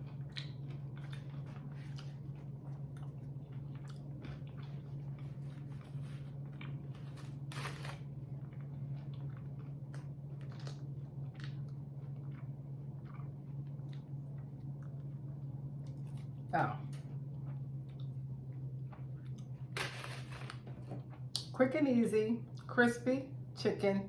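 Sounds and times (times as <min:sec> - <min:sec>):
crunchy chewing: 0:00.0 - 0:20.6
steady low hum: 0:00.0 - 0:24.0.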